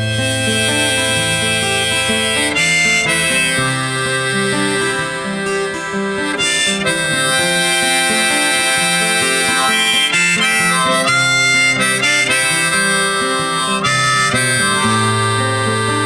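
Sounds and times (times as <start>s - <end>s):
guitar: 0.0s - 16.0s
harmonica: 0.0s - 16.0s.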